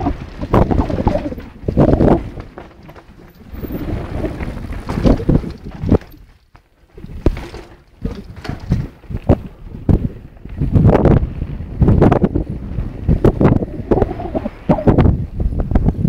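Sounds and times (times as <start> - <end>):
wind buffeting microphone: 0.0 - 6.3, 6.9 - 16.0
mountain bike rumbling on dirt: 0.0 - 16.0.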